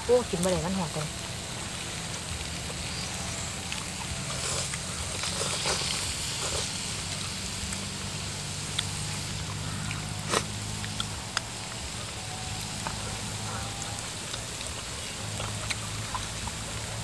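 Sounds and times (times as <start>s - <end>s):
low hum: 0.0s - 17.0s
noodles slurped and chewed: 0.1s - 17.0s.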